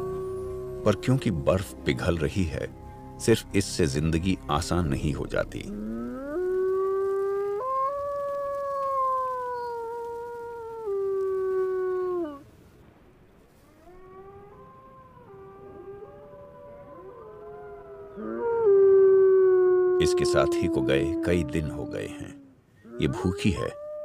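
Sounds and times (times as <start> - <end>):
wolves howling: 0.0 - 12.4, 13.8 - 24.0.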